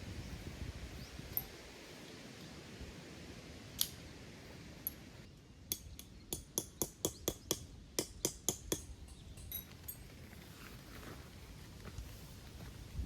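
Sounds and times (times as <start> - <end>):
faint steady background noise: 0.0 - 13.0.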